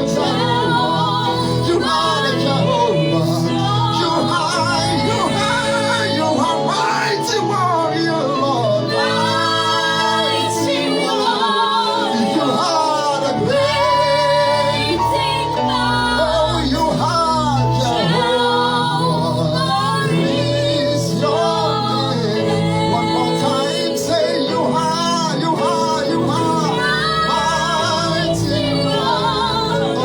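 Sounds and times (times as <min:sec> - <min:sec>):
voices singing gospel melody: 0:00.0 - 0:30.0.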